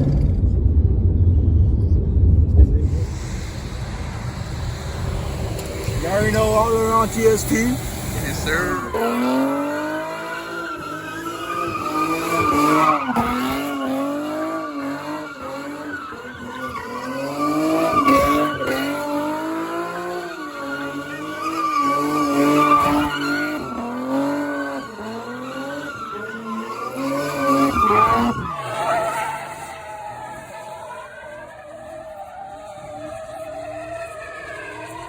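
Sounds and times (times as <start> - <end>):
car engine at high revs: 2.6 - 35.0
tyres squealing: 6.0 - 35.0.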